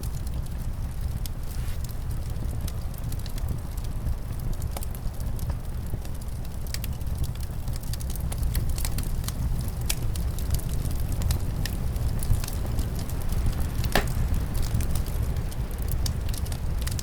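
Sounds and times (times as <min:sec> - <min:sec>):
low rumble of wind: 0:00.0 - 0:17.0
fireplace crackling: 0:00.1 - 0:17.0.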